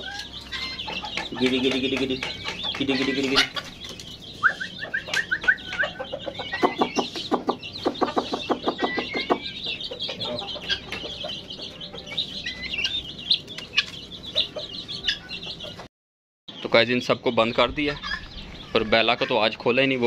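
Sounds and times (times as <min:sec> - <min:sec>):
chicks peeping: 0:00.0 - 0:15.9, 0:16.5 - 0:20.0
hen clucking: 0:00.0 - 0:15.9, 0:17.3 - 0:20.0.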